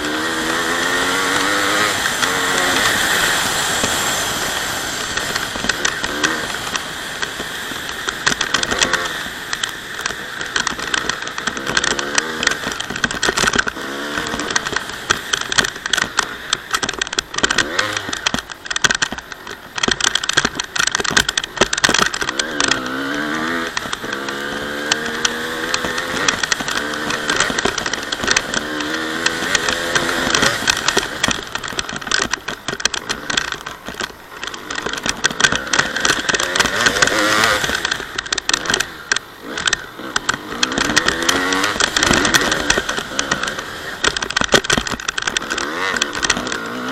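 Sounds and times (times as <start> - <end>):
motocross engine revving: 0.0 - 18.4, 20.8 - 46.9.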